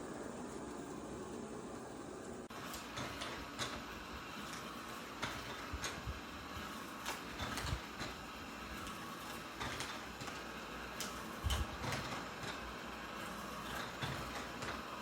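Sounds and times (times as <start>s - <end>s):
robot vacuum running: 2.4s - 15.0s.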